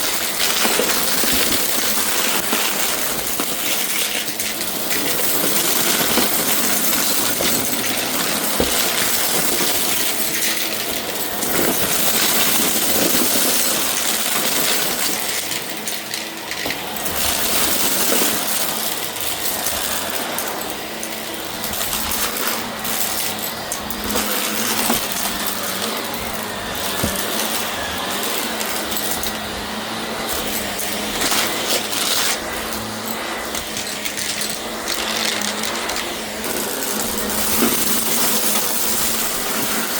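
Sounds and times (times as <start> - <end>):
debris crackling and clinking: 0.0 - 29.7, 30.3 - 39.9
vacuum cleaner running: 0.0 - 39.9.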